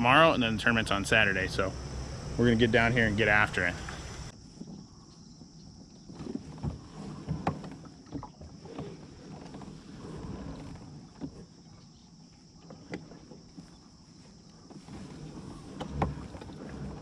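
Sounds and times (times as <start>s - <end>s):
water moving along kayak hull: 0.0s - 17.0s.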